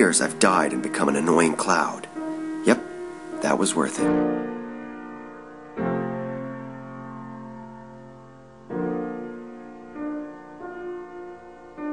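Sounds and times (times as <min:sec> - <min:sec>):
slow piano chords: 0:00.0 - 0:11.9.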